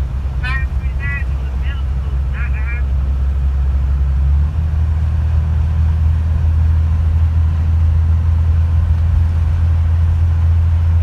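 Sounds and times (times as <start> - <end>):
car engine and tyres drone: 0.0 - 11.0.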